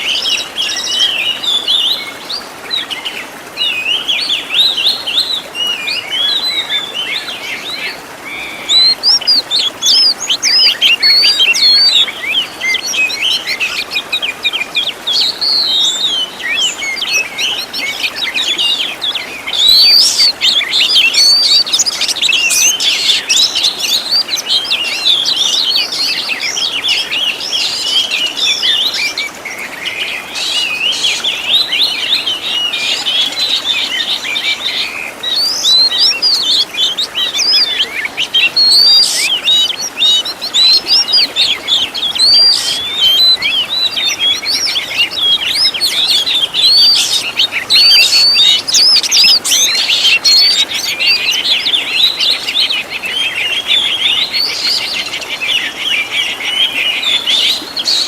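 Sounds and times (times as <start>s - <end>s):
magpie-robin singing: 3.0s - 29.2s, 30.0s - 58.0s.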